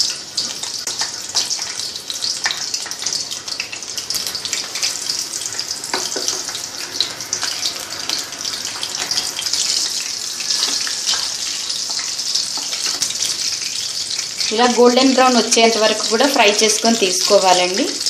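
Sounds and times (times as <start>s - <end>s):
hot oil sizzling and crackling: 0.0s - 18.0s.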